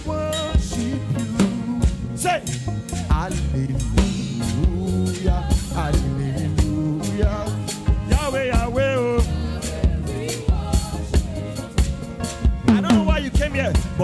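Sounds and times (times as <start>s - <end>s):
bass: 0.0s - 14.0s
drum kit beat: 0.0s - 14.0s
voices singing: 0.0s - 14.0s.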